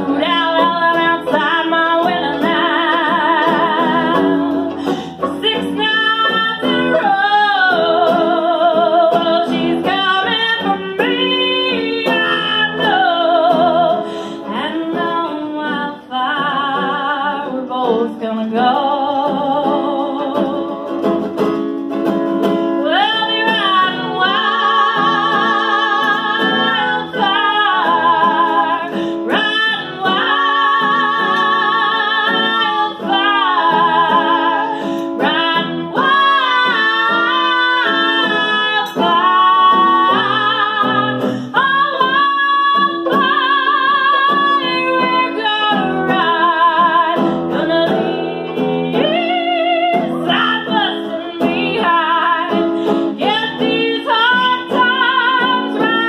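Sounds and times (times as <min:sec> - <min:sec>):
acoustic guitar: 0:00.0 - 0:56.0
woman singing country: 0:00.0 - 0:56.0.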